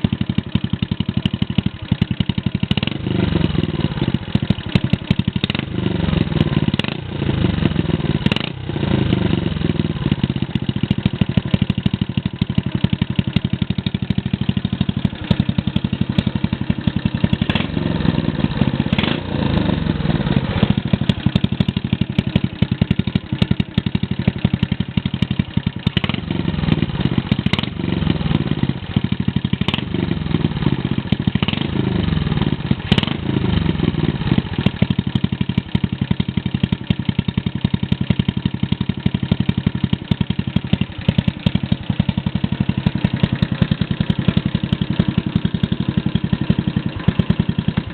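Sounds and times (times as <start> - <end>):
small motorcycle engine running: 0.0 - 47.9.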